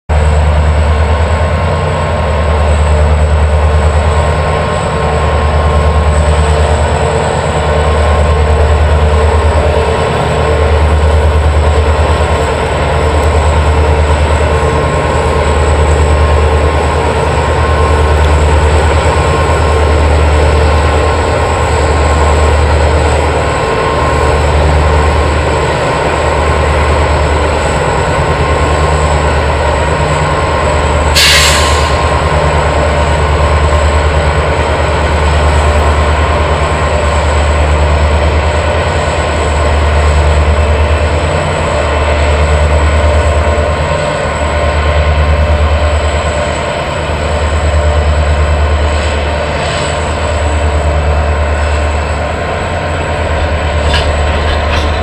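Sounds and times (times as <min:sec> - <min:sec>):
diesel locomotives throbbing: 0:00.1 - 0:55.0.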